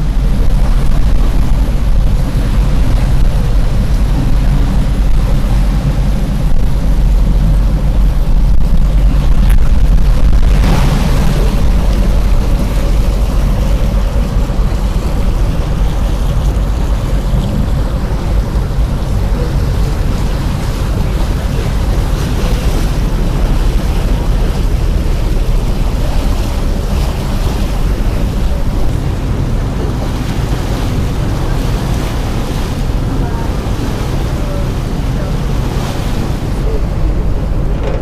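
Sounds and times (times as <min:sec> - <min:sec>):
water rushing along hull: 0:00.0 - 0:38.0
wind rumble on microphone: 0:00.0 - 0:38.0.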